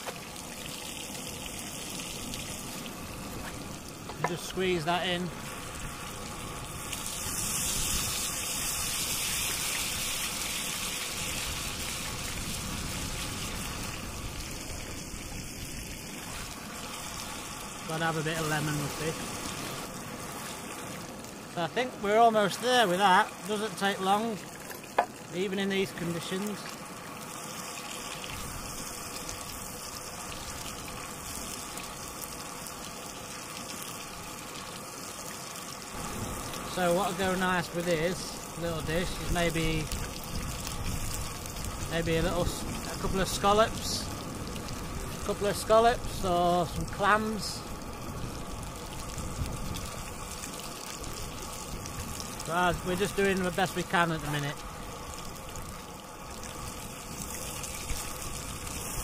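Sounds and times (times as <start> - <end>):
fish sizzling in a frying pan: 0.0 - 59.0.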